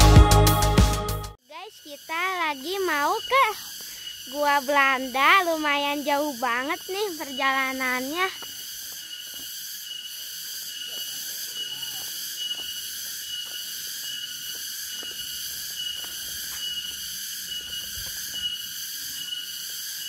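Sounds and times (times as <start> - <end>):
forest insects chorus: 1.4 - 20.0.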